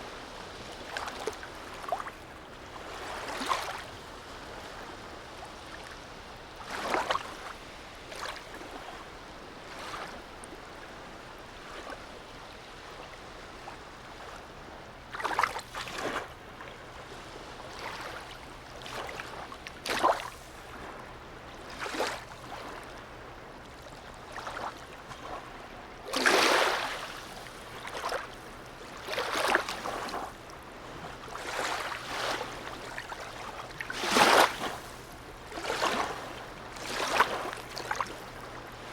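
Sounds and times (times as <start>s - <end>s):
small waves splashing: 0.0s - 38.9s.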